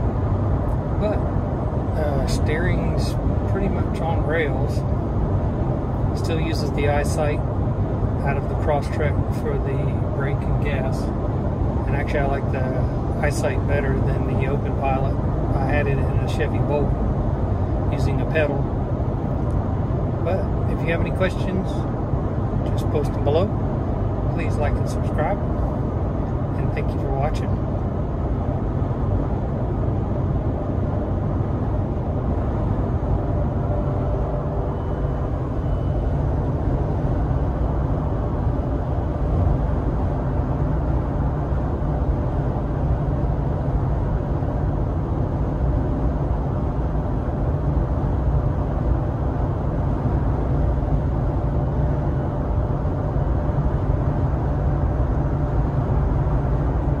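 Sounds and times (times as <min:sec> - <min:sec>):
car cabin road noise: 0:00.0 - 0:57.0.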